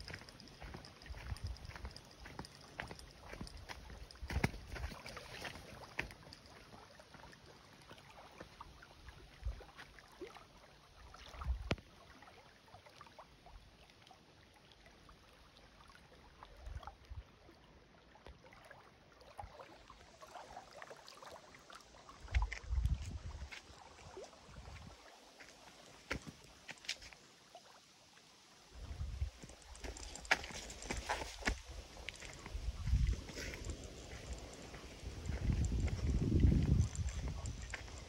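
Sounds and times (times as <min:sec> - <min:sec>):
waves lapping on stony shore: 0:00.0 - 0:13.2, 0:18.7 - 0:27.8, 0:28.5 - 0:38.0.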